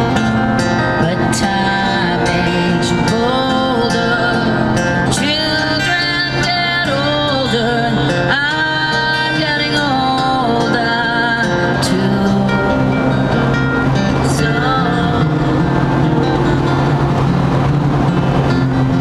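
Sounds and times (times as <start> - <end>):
acoustic guitar: 0.0 - 19.0
bass: 0.0 - 19.0
person singing: 0.6 - 16.3.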